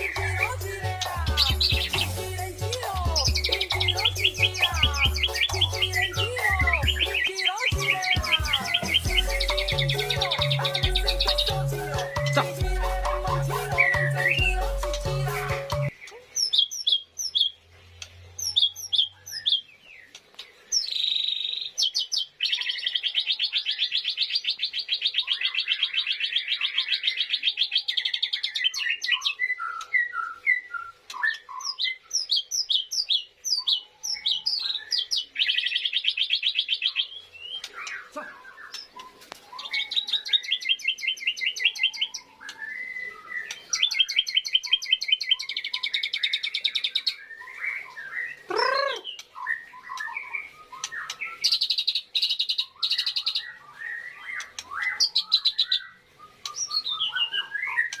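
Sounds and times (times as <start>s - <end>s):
lovebird chirping and trilling: 0.0s - 58.0s.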